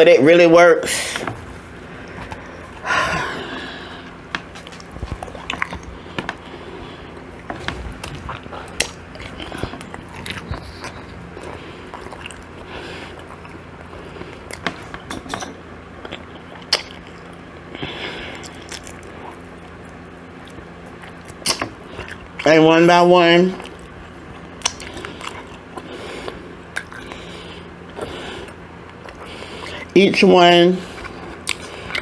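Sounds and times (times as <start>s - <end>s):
person chewing food: 1.1s - 22.5s, 23.6s - 29.9s, 30.8s - 32.0s.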